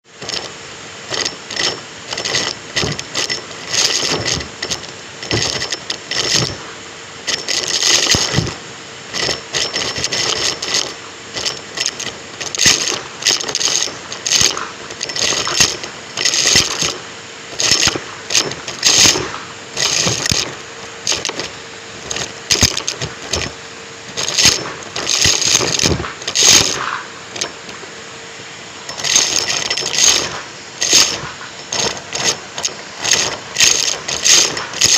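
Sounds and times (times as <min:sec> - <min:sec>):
vacuum cleaner motor hum: 0:00.0 - 0:34.9
vacuum suction crackling: 0:00.1 - 0:34.9.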